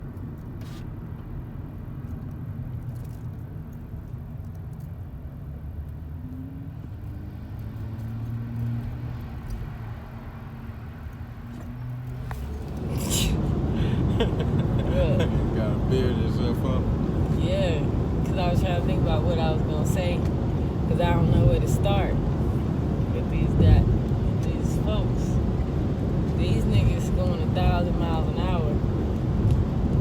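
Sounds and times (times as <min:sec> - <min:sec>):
road and engine rumble inside car: 0:00.0 - 0:30.0.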